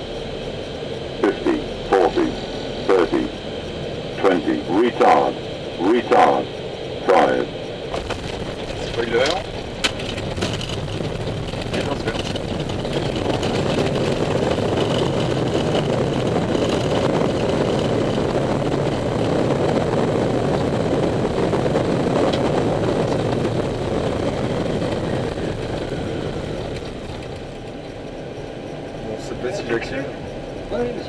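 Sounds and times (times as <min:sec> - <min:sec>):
aircraft engine and rolling rush: 0:00.0 - 0:31.0.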